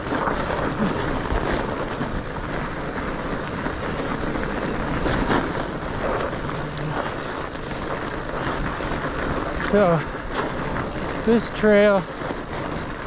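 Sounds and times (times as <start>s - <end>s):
bike rattling: 0.0s - 13.0s
tyres rumbling on packed snow: 0.0s - 13.0s
wind on microphone: 0.0s - 13.0s.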